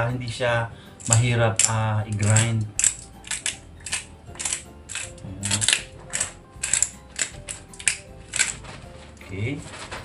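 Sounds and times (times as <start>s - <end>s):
spice grinder crunching: 1.0s - 10.0s.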